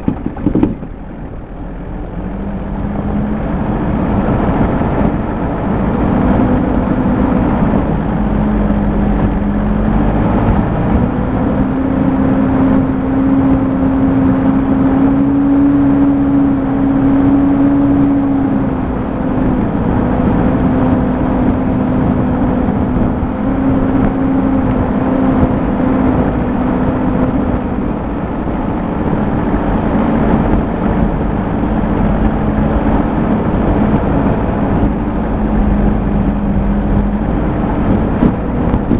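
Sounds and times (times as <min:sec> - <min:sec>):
off-road vehicle engine: 0:00.0 - 0:38.9.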